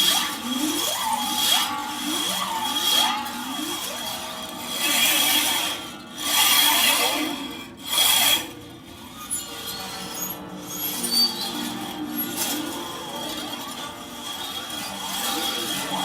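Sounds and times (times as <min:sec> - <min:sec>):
harp strings scraped: 0:00.0 - 0:16.0
ringing gliding string tones: 0:00.0 - 0:16.0.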